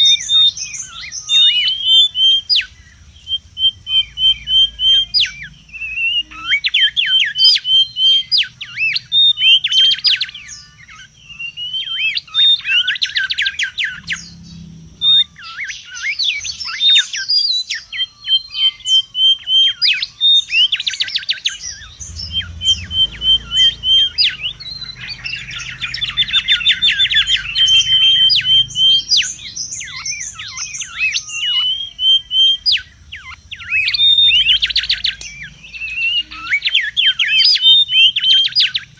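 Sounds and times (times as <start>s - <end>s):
bird whistling and chattering: 0.0s - 38.9s.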